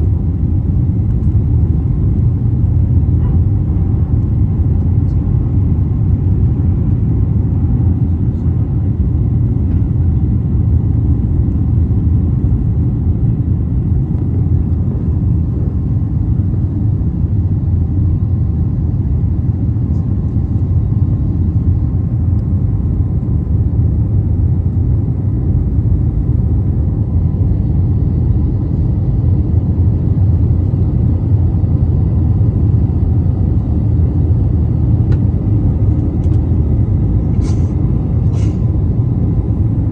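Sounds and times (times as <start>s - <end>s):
faint steady whine: 0.0s - 39.9s
jet engines roaring in cabin: 0.0s - 39.9s.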